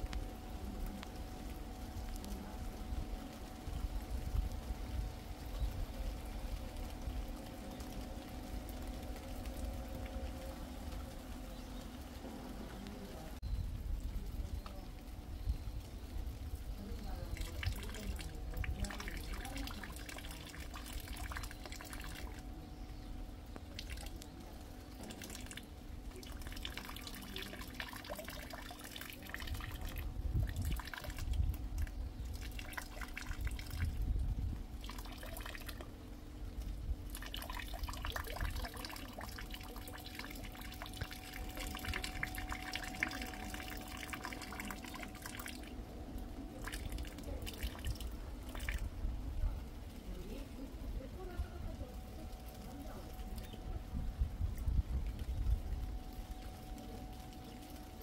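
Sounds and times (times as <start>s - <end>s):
raindrops ticking: 0.0s - 58.0s
rainwater trickling: 0.0s - 58.0s.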